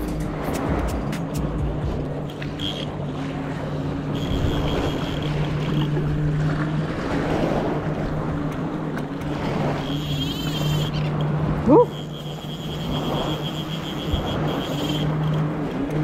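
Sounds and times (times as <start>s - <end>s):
distant motor drone: 0.0s - 16.0s
small waves lapping: 0.0s - 16.0s.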